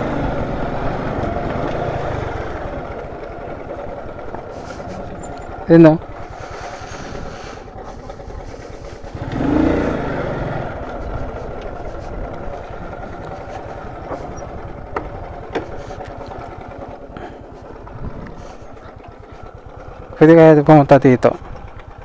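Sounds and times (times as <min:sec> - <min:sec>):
small motorcycle engine running: 0:00.0 - 0:22.0.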